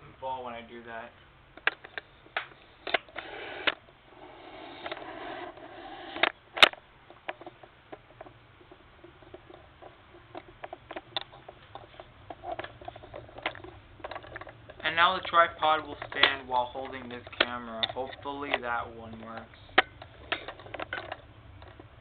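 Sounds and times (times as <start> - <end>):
tripod rustling and scraping: 1.6 - 22.0.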